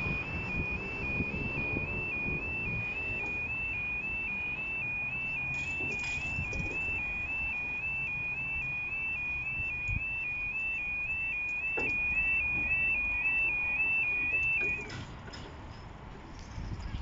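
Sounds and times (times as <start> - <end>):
two-tone electronic alarm: 0.0 - 14.9.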